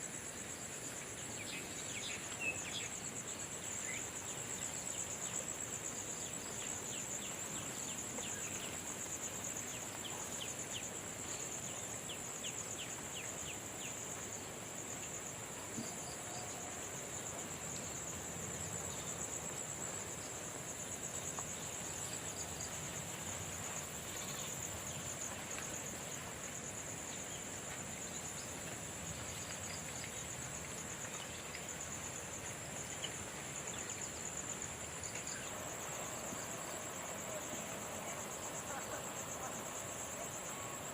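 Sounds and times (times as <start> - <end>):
background hiss: 0.0 - 40.9
crickets trilling: 0.0 - 40.9.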